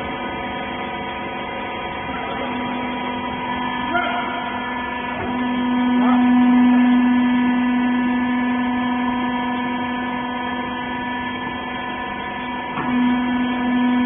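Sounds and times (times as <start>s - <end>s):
electric motor and pump humming: 0.0s - 14.0s.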